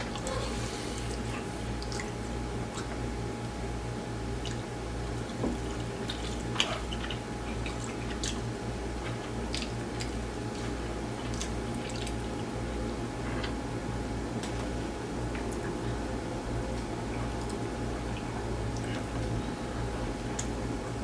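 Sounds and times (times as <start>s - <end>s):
chewing and wet smacking: 0.0s - 3.6s, 4.4s - 12.6s, 14.4s - 16.0s, 16.7s - 21.0s
low electrical hum: 0.0s - 21.0s.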